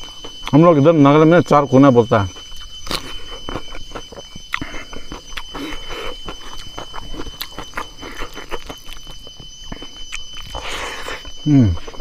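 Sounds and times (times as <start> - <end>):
chewing crunchy food: 0.0 - 0.7, 2.2 - 12.0
mouth clicks: 2.2 - 12.0.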